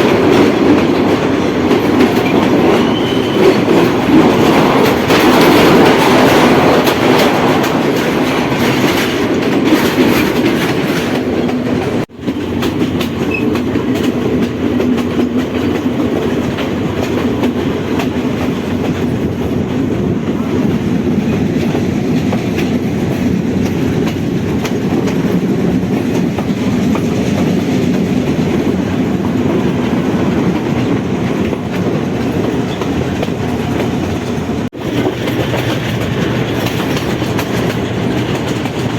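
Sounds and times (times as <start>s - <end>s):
train carriage rumble: 0.0s - 38.9s
wheels clicking over rail joints: 0.0s - 38.9s.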